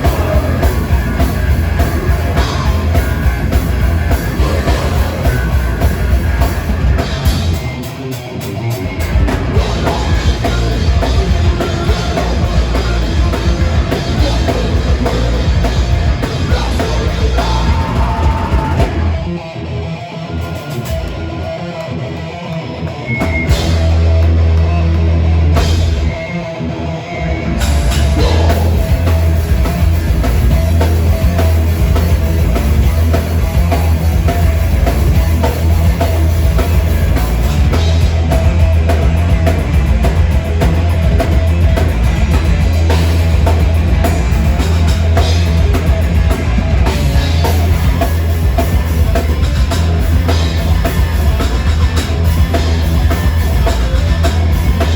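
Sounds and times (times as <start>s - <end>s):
drum kit: 0.0s - 19.4s, 22.7s - 26.4s, 27.4s - 54.9s
electric guitars: 0.0s - 54.9s.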